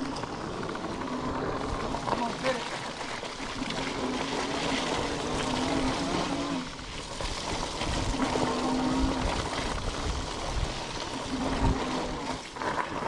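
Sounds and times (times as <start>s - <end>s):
electric bike motor whining: 0.0s - 13.0s
tyres rushing on wet dirt: 0.0s - 13.0s.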